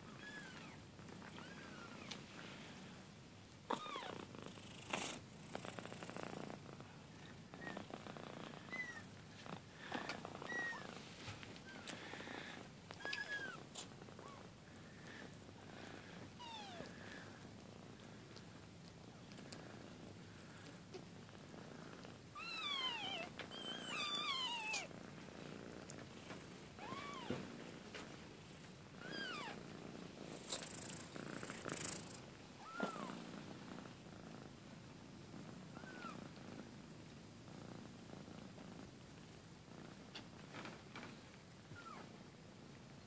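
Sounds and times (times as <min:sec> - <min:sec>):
kitten purring: 0:03.6 - 0:43.0.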